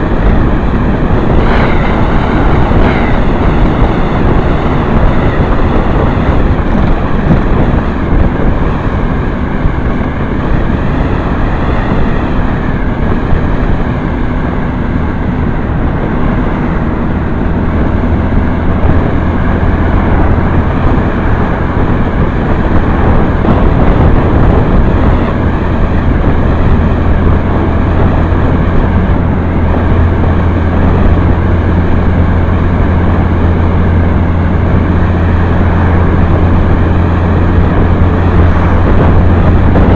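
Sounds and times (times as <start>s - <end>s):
low even drone: 0.0s - 39.9s
motorcycle engine running: 0.0s - 39.9s
road and wind noise: 0.0s - 39.9s.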